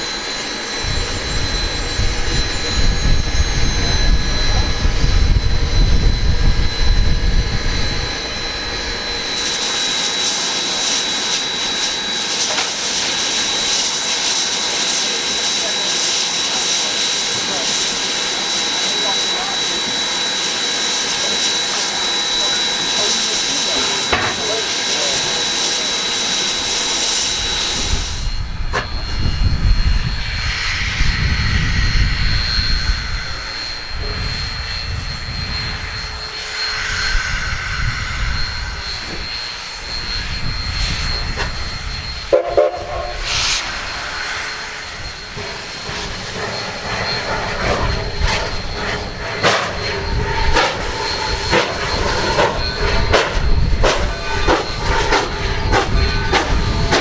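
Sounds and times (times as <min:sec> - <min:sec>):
steam train rumbling on rails: 0:00.0 - 0:57.0.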